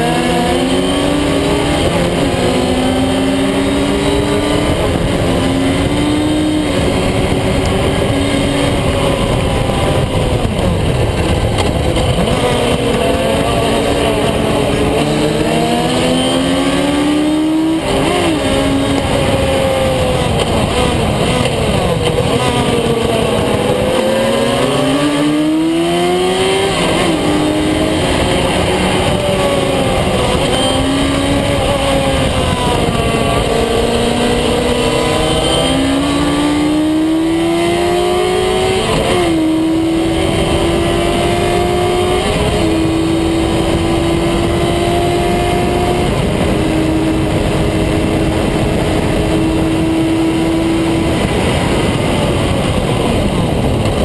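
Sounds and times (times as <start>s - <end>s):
engine upshifts: 0.0s - 54.0s
race car engine revving: 0.0s - 54.0s.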